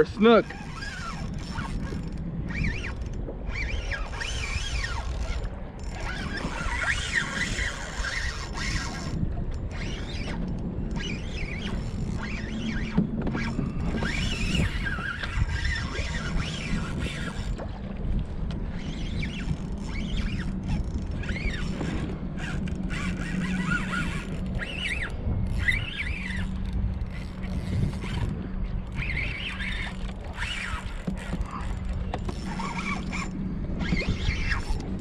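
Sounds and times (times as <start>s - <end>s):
fishing reel squeaks: 0.0s - 17.7s, 18.6s - 35.0s
wind and water rumble: 0.0s - 35.0s
fishing reel clicks: 0.4s - 17.6s, 18.7s - 35.0s.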